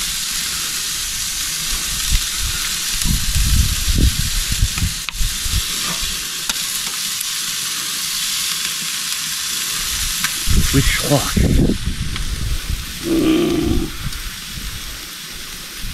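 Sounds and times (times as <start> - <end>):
chicken sizzling on grill: 0.0 - 15.9.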